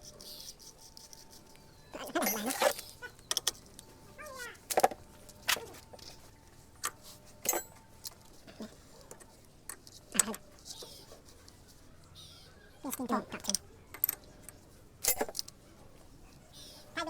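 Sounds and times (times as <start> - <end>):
metal tools clicking and clinking: 0.0 - 11.7, 12.9 - 15.6.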